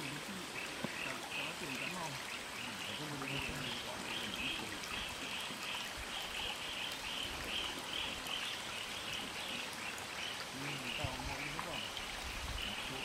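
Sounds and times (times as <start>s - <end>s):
stream trickling over rocks: 0.0s - 13.0s.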